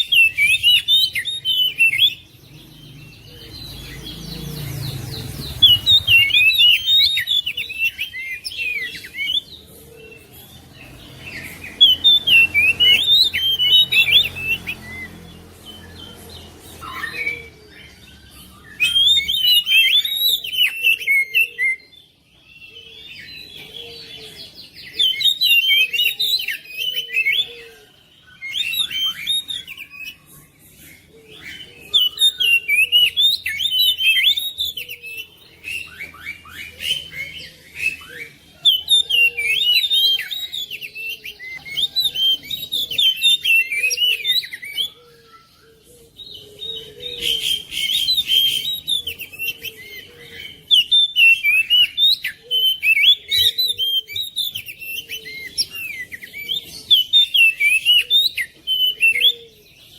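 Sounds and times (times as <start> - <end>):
bird singing chirps and whistles: 0.0 - 59.9.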